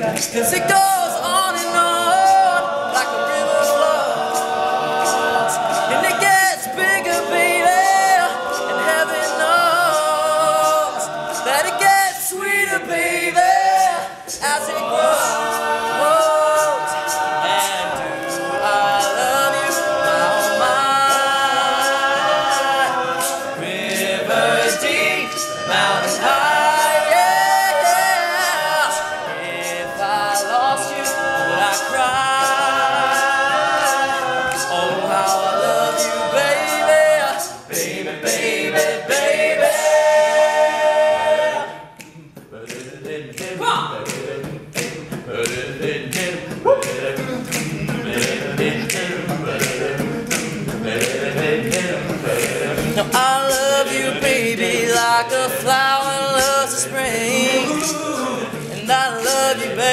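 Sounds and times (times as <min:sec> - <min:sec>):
male a cappella group singing: 0:00.0 - 0:59.9.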